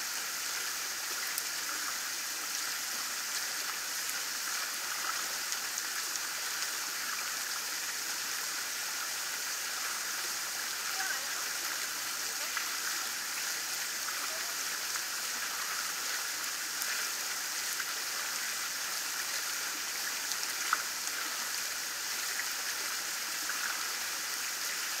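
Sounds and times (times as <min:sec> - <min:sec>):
water rushing over concrete: 0:00.0 - 0:25.0.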